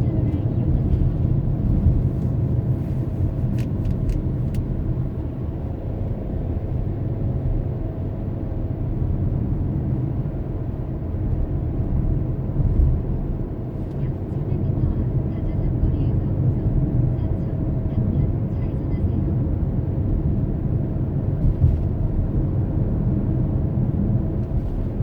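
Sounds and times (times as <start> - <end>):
tyres and engine rumble: 0.0 - 25.0.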